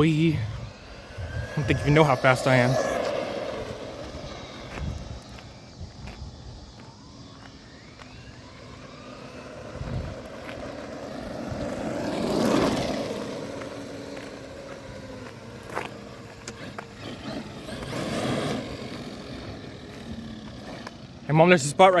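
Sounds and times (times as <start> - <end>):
electric motor whine: 0.0 - 22.0
tyre noise: 0.0 - 22.0.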